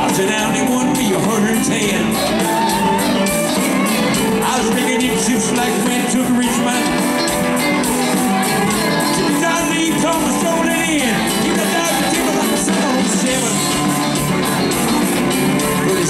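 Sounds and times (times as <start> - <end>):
country-rock band playing: 0.0 - 16.0
lead guitar bending notes: 0.0 - 16.0.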